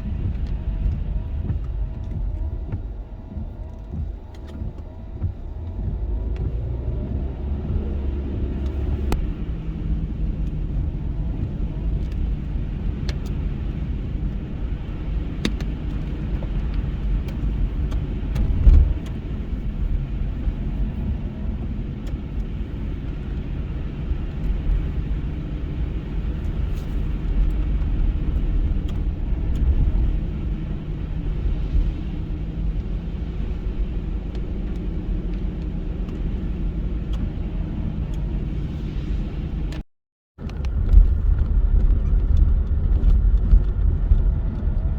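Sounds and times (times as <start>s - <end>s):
car engine and tyres rumbling: 0.0s - 44.9s.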